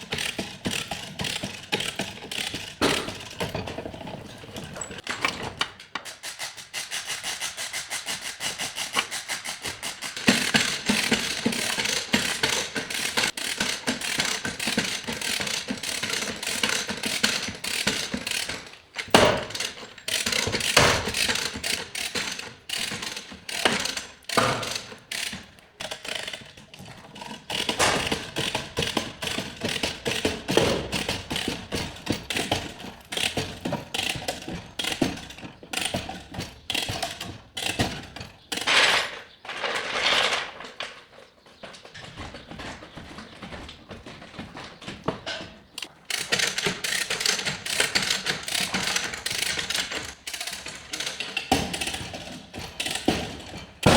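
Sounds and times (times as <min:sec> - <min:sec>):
tools clicking and rattling: 0:00.0 - 0:53.9.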